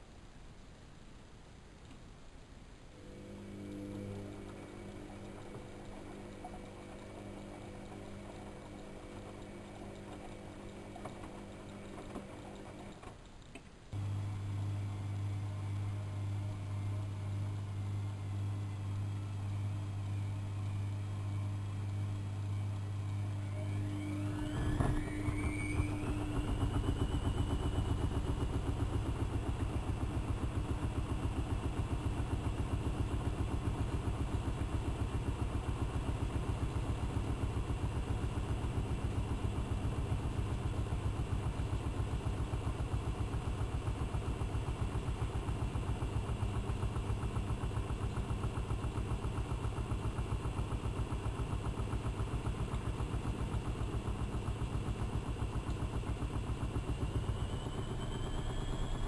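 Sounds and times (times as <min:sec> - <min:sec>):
washing machine spinning: 0:03.0 - 0:13.1, 0:14.0 - 0:59.0.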